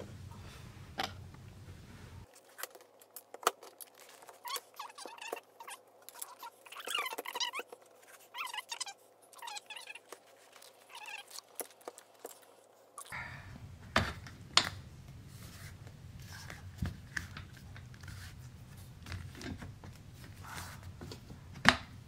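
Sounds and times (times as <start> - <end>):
faint room hiss: 0.0 - 22.0.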